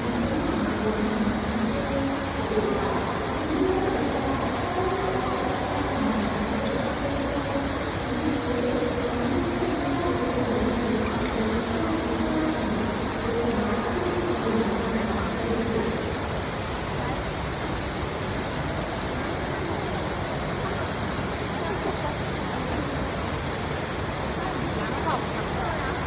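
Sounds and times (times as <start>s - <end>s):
faint indistinct voices: 0.0s - 26.0s.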